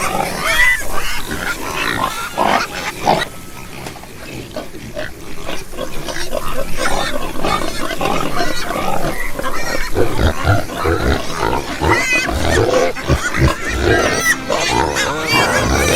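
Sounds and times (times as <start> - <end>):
pigs grunting: 0.0 - 15.9
pigs squealing: 0.0 - 15.9.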